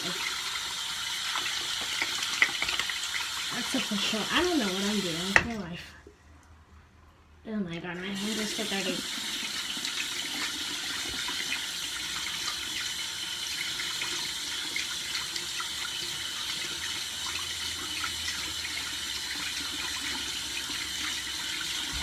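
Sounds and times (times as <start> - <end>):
tap water running into sink: 0.0 - 5.7, 8.2 - 22.0.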